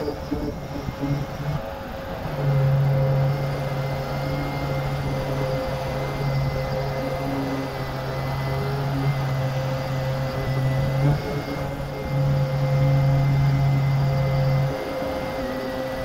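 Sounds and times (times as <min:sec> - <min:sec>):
orbital sander humming: 0:00.0 - 0:16.0.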